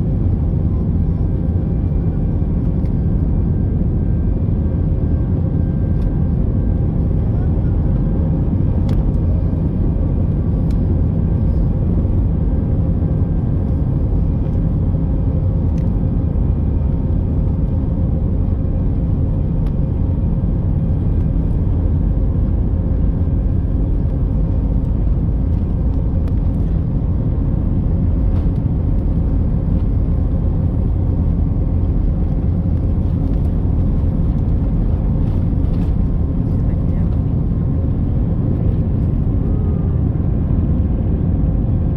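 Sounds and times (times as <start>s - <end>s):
jet engines deep rumble: 0.0s - 41.9s.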